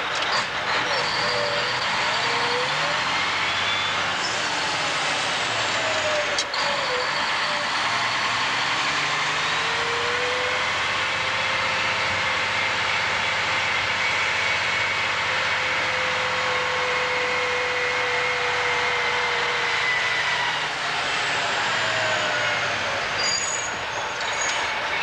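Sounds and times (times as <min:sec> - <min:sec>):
dump truck engine running: 0:00.0 - 0:25.0
road noise: 0:00.0 - 0:25.0.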